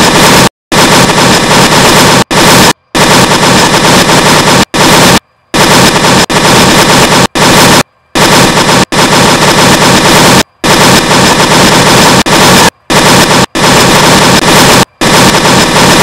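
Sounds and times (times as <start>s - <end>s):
loud distorted noise: 0.0s - 16.0s.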